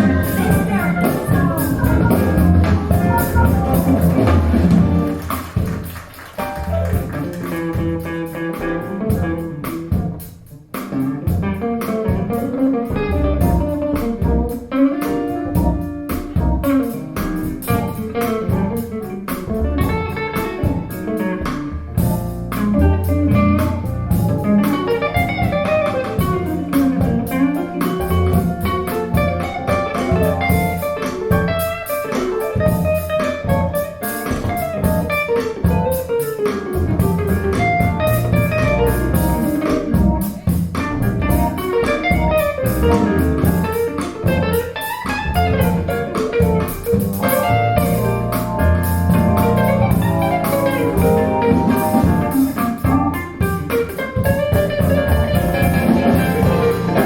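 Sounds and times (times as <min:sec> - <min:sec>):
bass guitar line: 0:00.0 - 0:57.0
instrumental guitar music: 0:00.0 - 0:57.0.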